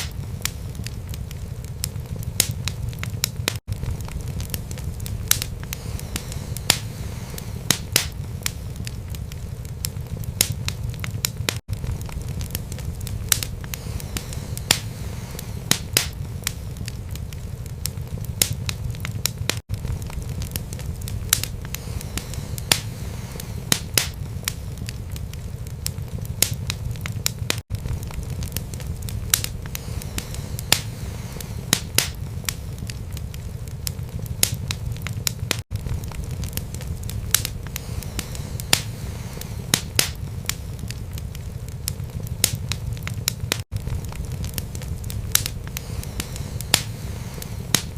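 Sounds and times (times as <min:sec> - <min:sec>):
burning wood crackling and popping: 0:00.0 - 0:47.9
fire rumbling in a fireplace: 0:00.0 - 0:47.9.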